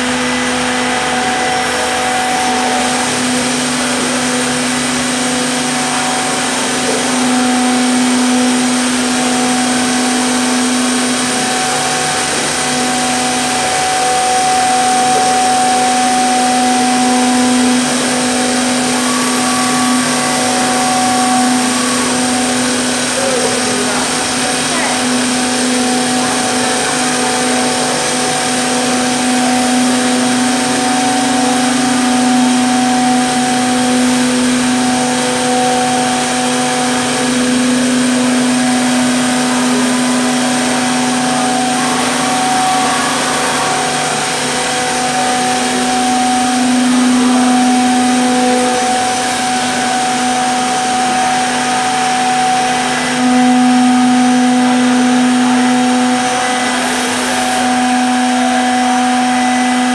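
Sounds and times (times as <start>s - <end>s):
machine motors humming and whining: 0.0s - 59.9s.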